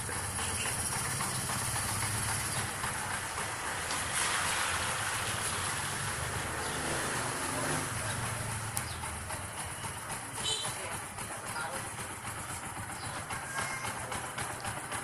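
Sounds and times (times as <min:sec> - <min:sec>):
motorcycle engine idling: 0:00.0 - 0:04.2, 0:04.8 - 0:15.0.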